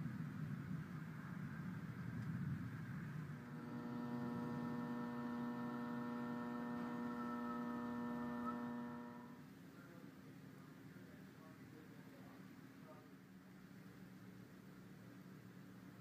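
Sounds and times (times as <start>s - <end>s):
electrical machine hum: 0.0s - 16.0s.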